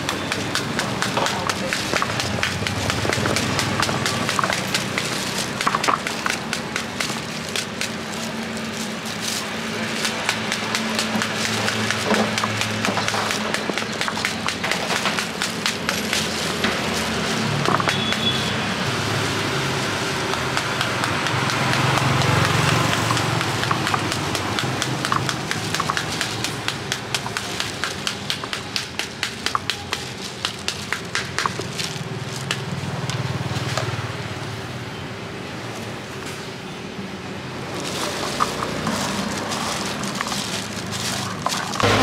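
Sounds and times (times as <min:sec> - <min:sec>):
stick knocking pomegranate rind: 0:00.0 - 0:18.4, 0:20.1 - 0:32.7, 0:37.7 - 0:42.0.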